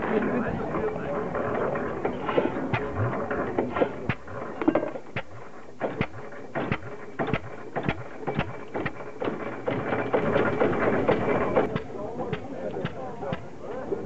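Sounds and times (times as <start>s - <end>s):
stationary engine running slowly: 0.0s - 14.0s.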